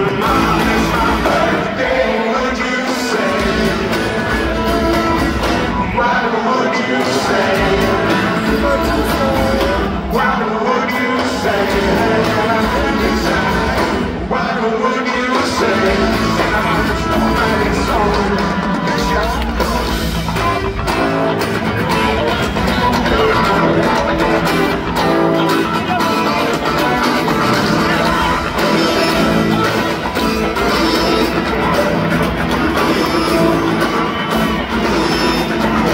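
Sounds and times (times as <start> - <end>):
bass guitar: 0.0 - 6.2, 7.0 - 14.4, 15.4 - 35.9
drums in a steady groove: 0.0 - 6.4, 7.0 - 35.9
acoustic guitar: 0.0 - 35.9.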